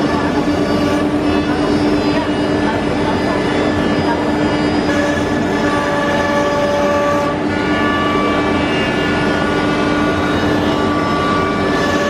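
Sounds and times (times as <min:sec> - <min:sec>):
high whining tones: 0:00.0 - 0:12.0.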